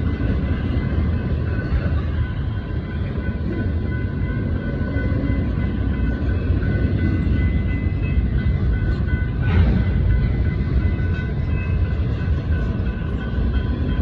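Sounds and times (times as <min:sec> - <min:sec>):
crossing signal bell: 0:00.0 - 0:14.0
freight train rumbling: 0:00.0 - 0:14.0.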